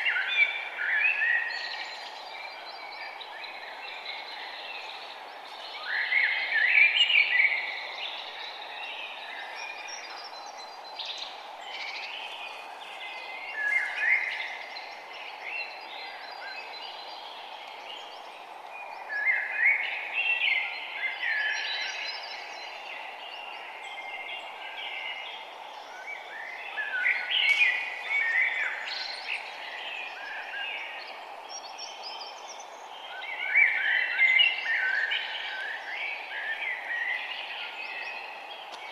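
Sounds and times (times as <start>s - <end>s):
forest birds chirping: 0.0s - 38.9s
steady background hiss: 0.0s - 38.9s.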